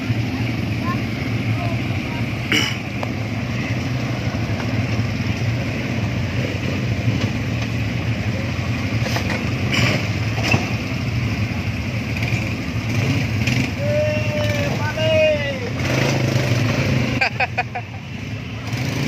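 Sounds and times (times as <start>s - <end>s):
quad bike engines droning: 0.0s - 19.0s.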